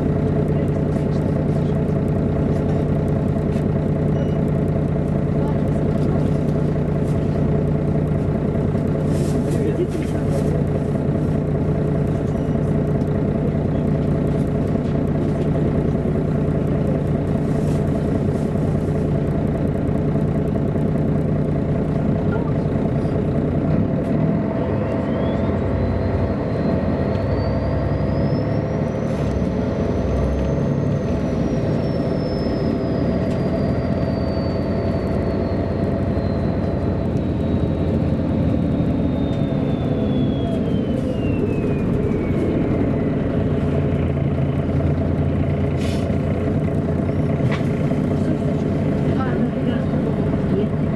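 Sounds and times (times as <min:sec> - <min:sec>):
bus diesel engine running: 0:00.0 - 0:50.9
high drivetrain whine: 0:00.0 - 0:50.9.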